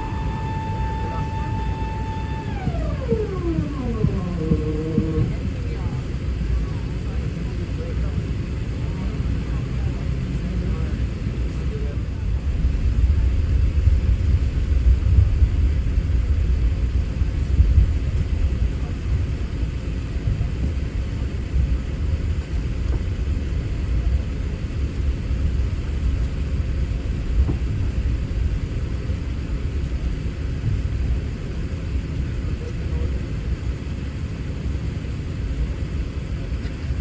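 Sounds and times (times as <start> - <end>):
airplane cabin rumble: 0.0 - 37.0.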